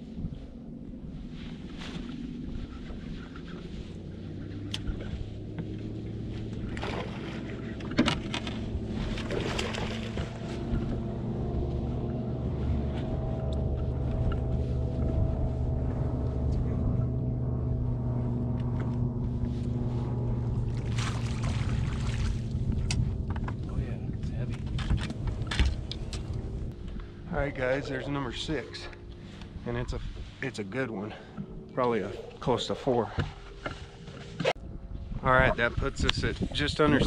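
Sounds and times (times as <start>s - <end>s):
boat motor hum: 0.0s - 37.0s.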